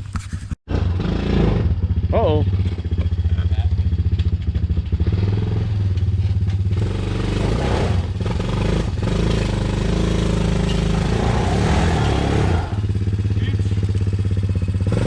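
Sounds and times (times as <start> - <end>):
engine pulling under load: 0.7 - 15.0.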